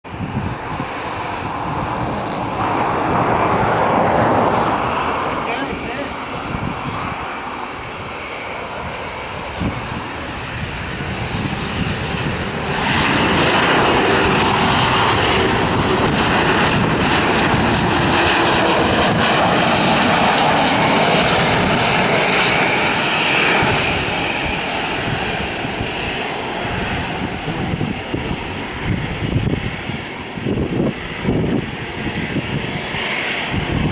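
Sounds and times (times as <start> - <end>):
jet engine rumble: 0.0 - 33.9.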